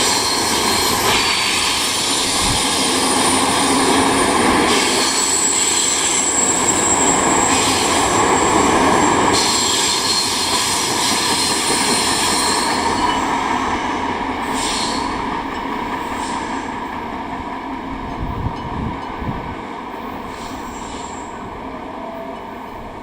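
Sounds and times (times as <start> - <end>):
train running noise: 0.0 - 23.0
train wheels squealing on rails: 0.0 - 23.0.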